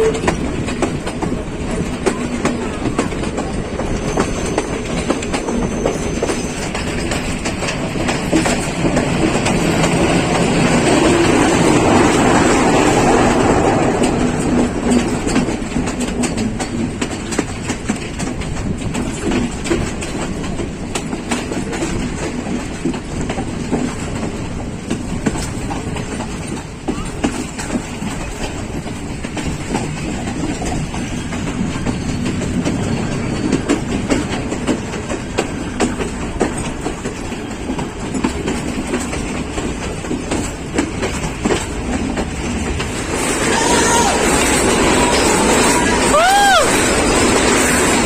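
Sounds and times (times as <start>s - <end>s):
train rumble: 0.0s - 48.0s
wheels clicking over rail joints: 0.0s - 48.0s.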